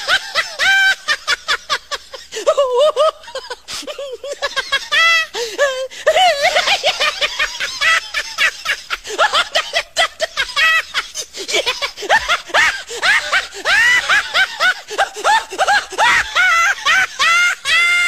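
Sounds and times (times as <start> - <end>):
person cackling laughter: 0.0 - 18.0.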